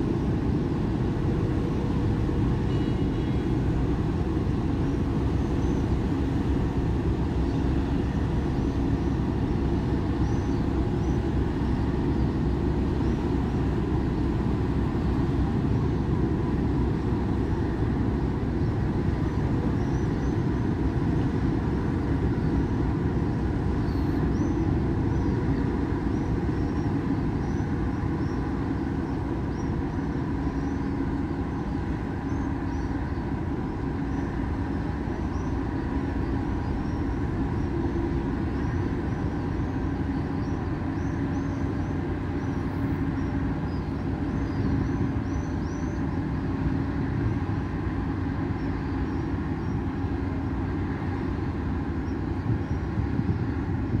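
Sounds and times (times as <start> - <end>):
ship engines rumbling: 0.0 - 54.0.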